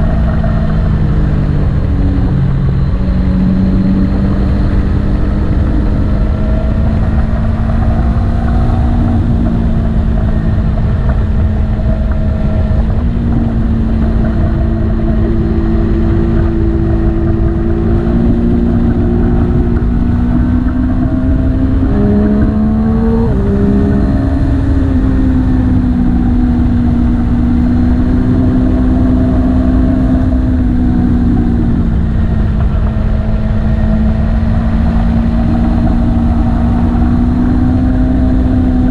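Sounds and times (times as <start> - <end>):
heavy wind: 0.0 - 38.9
motorcycle engine running: 0.0 - 38.9
road rumble: 0.0 - 38.9.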